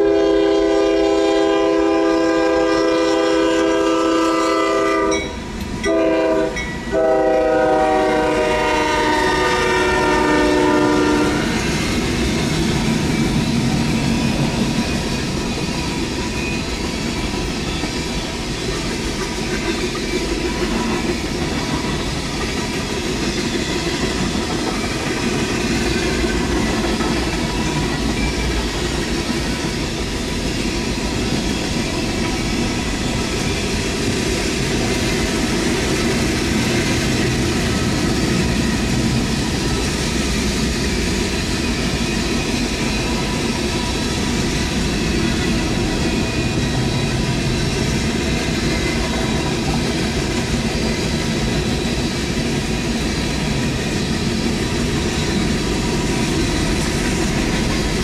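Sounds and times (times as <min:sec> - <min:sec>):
steel train wheels on rails: 0:00.0 - 0:58.0.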